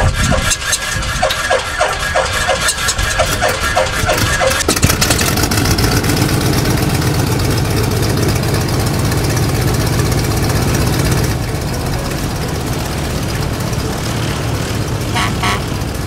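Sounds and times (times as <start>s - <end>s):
propeller plane engine idling: 0.0s - 16.0s.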